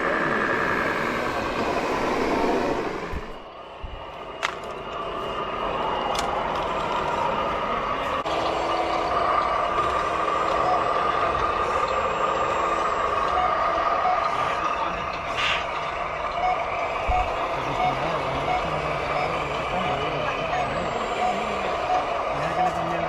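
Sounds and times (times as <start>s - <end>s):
model truck engine noise: 0.0s - 23.0s.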